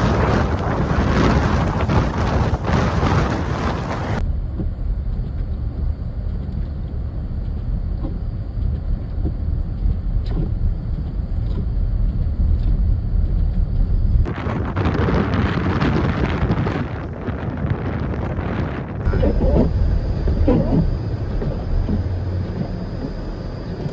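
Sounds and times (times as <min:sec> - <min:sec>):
blizzard wind buffeting microphone: 0:00.0 - 0:23.9
deep low rumble: 0:00.0 - 0:23.9.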